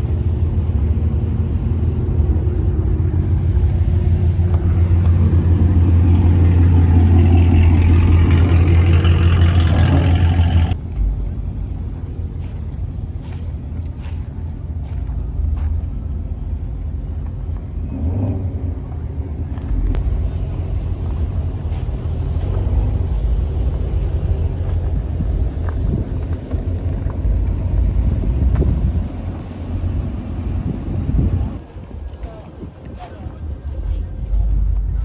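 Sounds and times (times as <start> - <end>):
car engines rumbling: 0.0 - 35.0.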